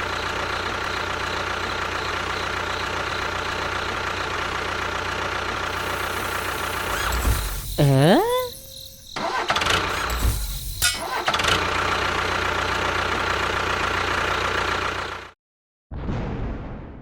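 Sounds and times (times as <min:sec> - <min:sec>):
small tractor engine running: 0:00.0 - 0:15.3.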